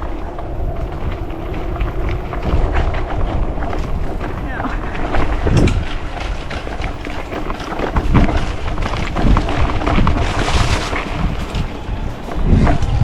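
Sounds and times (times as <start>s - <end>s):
bike knocks and rattles: 0.0s - 13.0s
wind buffeting microphone: 0.0s - 13.0s.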